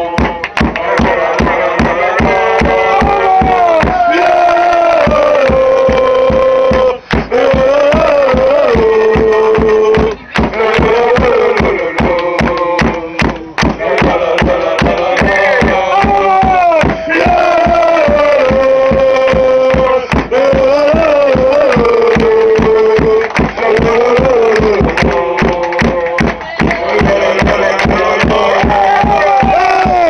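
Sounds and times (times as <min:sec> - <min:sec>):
men singing a chant: 0:00.0 - 0:30.0
steady drum beat: 0:00.0 - 0:30.0.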